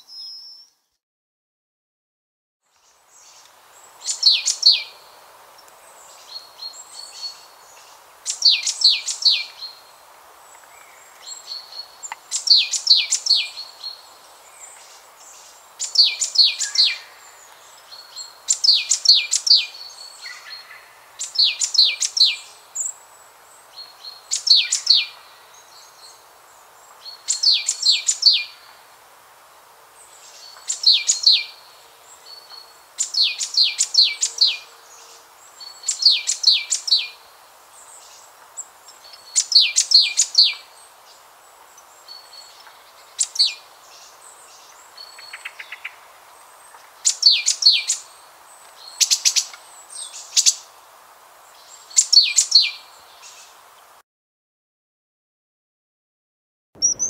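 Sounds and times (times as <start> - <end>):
songbird singing: 0.0 - 1.0, 2.7 - 54.0, 56.8 - 57.0
faint steady hiss: 2.7 - 54.0.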